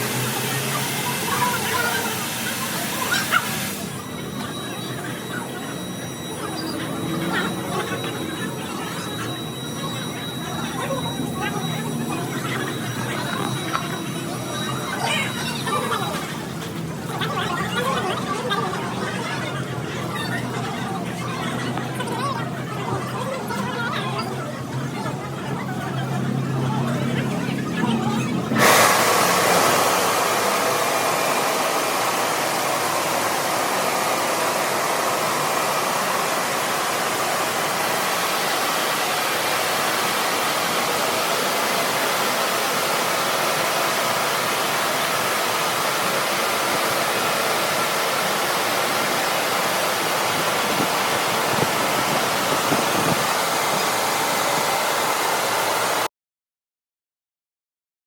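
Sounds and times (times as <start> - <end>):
car wash machine rushing: 0.0 - 56.1.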